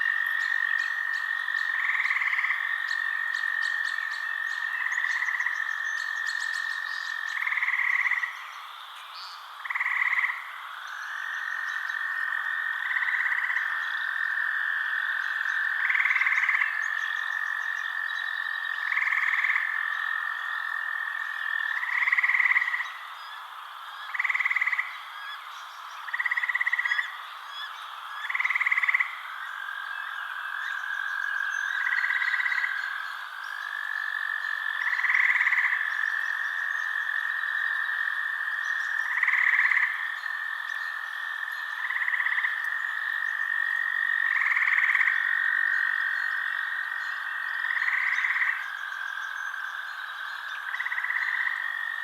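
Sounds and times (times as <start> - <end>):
frog calls: 0.0 - 52.0
frogs trilling: 0.0 - 52.0.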